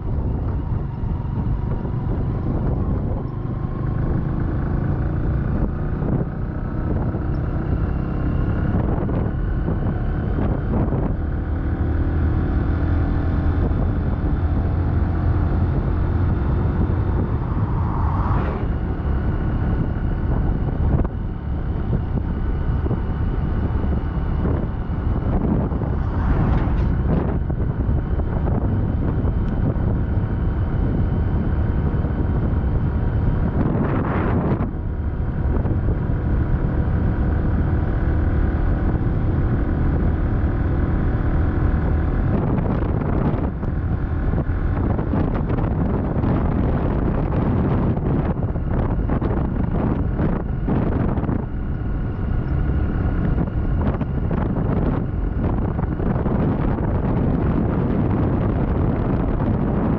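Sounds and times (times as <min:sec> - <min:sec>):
vehicle running on road: 0:00.0 - 0:59.9
wind buffeting microphone: 0:00.0 - 0:59.9.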